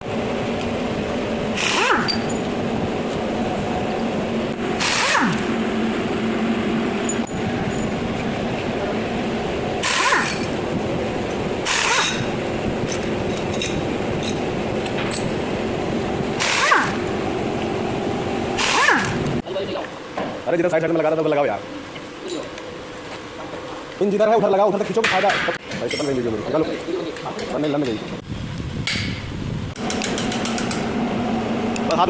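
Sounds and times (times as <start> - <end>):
mechanical running hum: 0.0 - 32.0.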